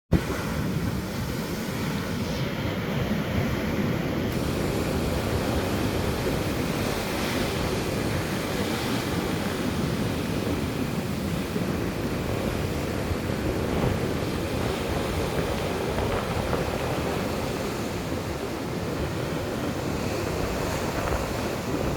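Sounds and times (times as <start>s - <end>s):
ocean waves breaking on beach: 0.1s - 21.9s.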